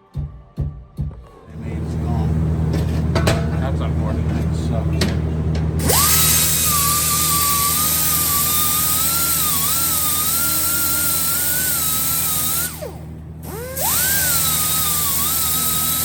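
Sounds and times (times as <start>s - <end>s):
power grinder whining: 1.5s - 16.0s.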